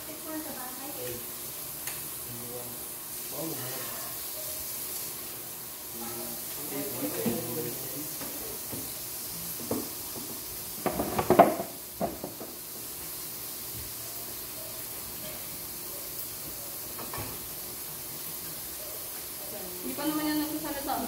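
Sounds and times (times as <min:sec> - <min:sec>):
food sizzling on grill pan: 0:00.0 - 0:21.0.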